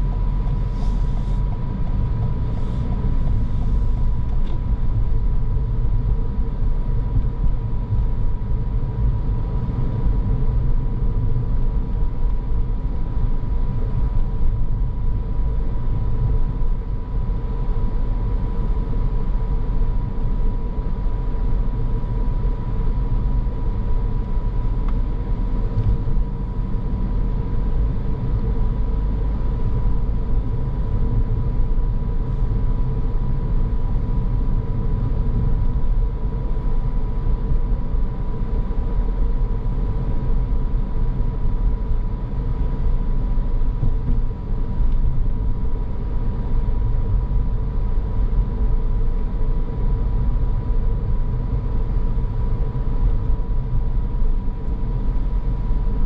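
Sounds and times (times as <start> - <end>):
car road and engine rumble: 0.0 - 56.0
faint steady whine: 0.0 - 56.0.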